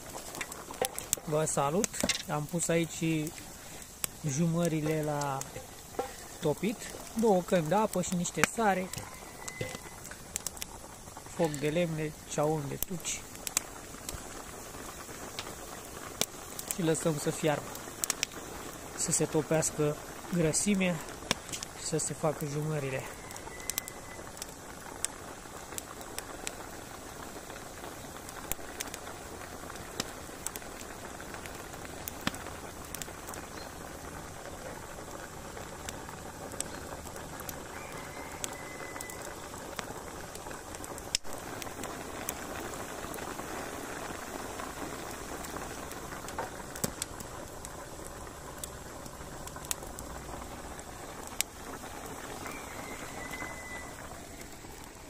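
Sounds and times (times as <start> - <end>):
water boiling in a cauldron: 0.0 - 55.0
wood fire popping and crackling: 0.0 - 55.0.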